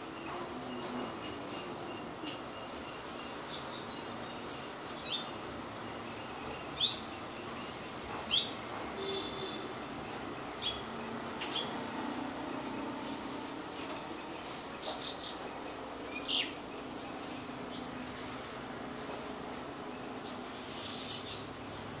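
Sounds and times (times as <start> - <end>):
steady background hiss: 0.0 - 22.0
small birds chirping: 0.2 - 18.0.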